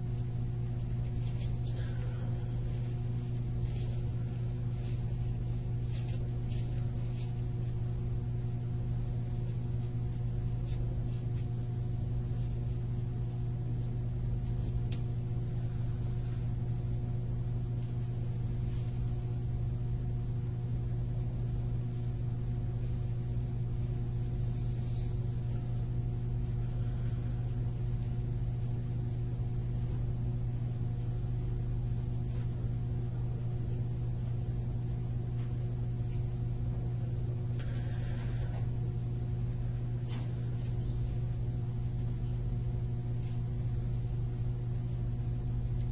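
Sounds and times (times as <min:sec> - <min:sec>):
electrical hum: 0:00.0 - 0:45.9.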